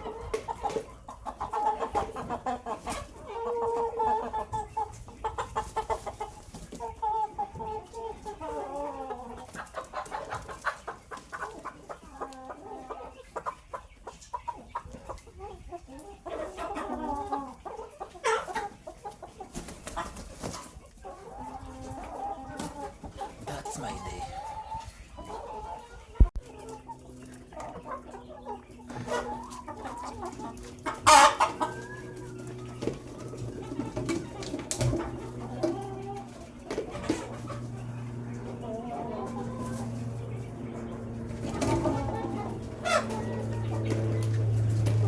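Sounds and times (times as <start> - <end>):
chickens clucking and calling: 0.0 - 45.0.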